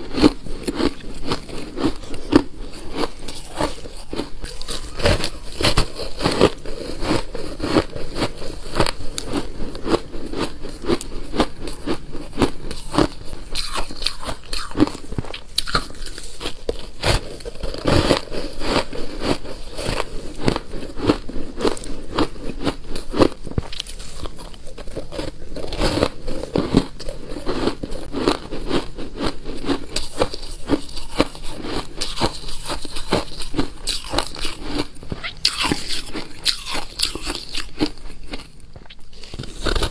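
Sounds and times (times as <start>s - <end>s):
crunching shaved ice: 0.0s - 38.5s, 39.1s - 39.9s.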